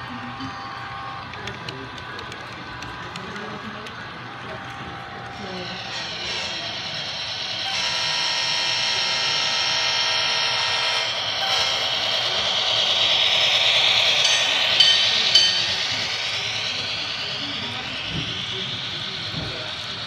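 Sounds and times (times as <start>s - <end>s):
model train motor whine: 0.0s - 20.0s
model train wheels rolling: 1.2s - 20.0s.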